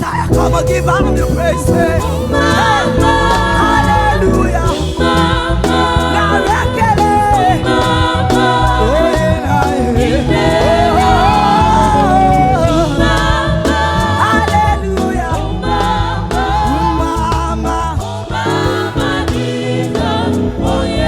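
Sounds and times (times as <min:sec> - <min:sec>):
gospel singing: 0:00.0 - 0:21.0
heavy bass line: 0:00.0 - 0:21.0
percussion: 0:00.0 - 0:21.0.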